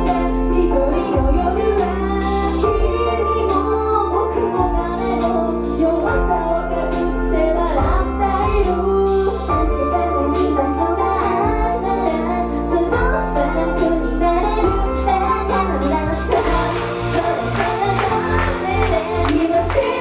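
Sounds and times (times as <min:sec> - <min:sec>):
pop music with bass beat: 0:00.0 - 0:20.0
woman singing: 0:00.0 - 0:20.0.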